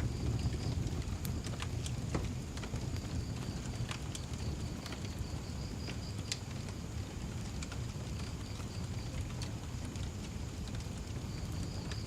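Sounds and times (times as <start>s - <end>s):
fire crackling: 0.0s - 12.0s
wood fire rumbling: 0.0s - 12.0s.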